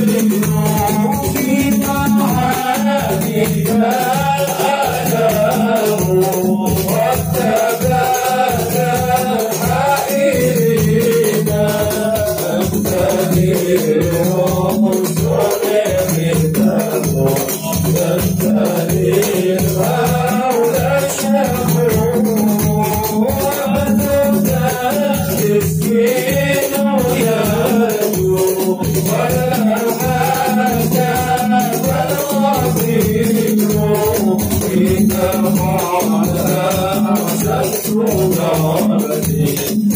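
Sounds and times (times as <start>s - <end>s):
frame drums beating: 0.0s - 39.9s
men singing in unison: 0.0s - 39.9s.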